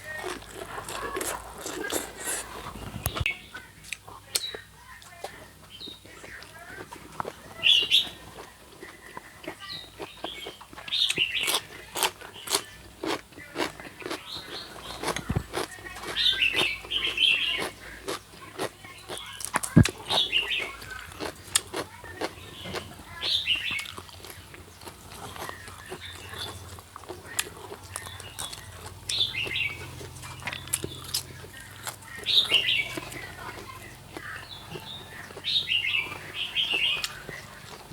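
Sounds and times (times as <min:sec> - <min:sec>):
person eating crunchily: 0:00.0 - 0:04.6, 0:06.0 - 0:37.9
small birds chirping: 0:00.0 - 0:37.9.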